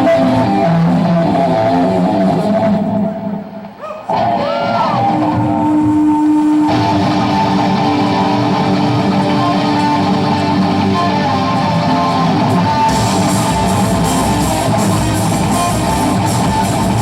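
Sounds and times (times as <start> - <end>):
electric guitar bending pitch: 0.0 - 17.0
live rock band playing: 0.0 - 17.0.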